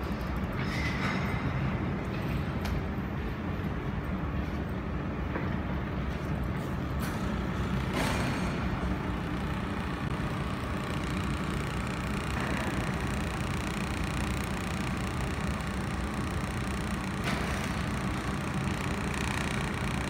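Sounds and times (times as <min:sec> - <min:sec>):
cooling fans humming: 0:00.0 - 0:20.0.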